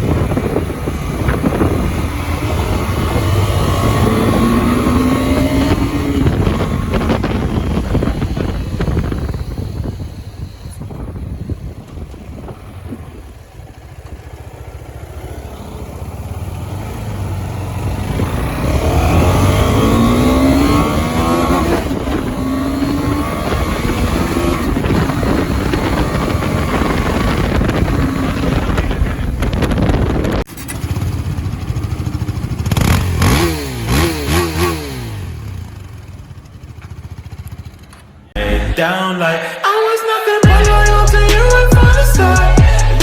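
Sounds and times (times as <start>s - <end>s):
motorcycle engine running under load: 0.0s - 38.3s.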